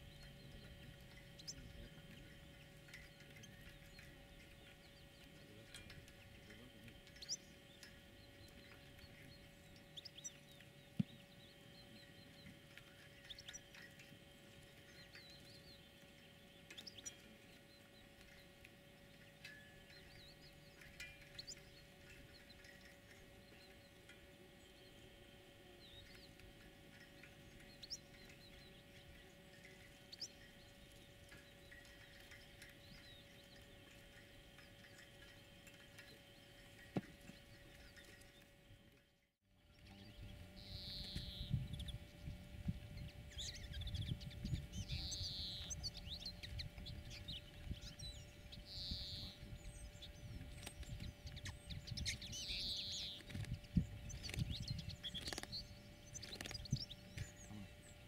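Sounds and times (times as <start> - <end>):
faint small bird chirps: 0.0 - 36.6, 39.6 - 58.0
faint steady hum: 0.0 - 58.0.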